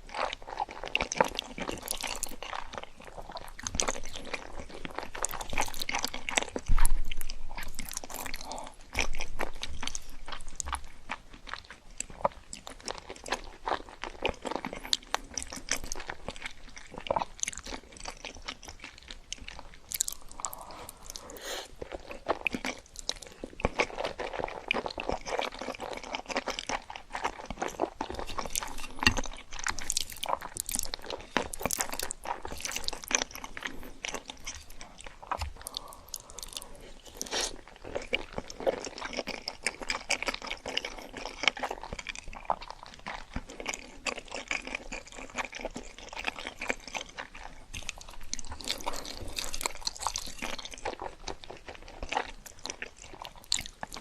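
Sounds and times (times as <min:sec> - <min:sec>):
crunching crisp fried food: 0:00.0 - 0:54.0.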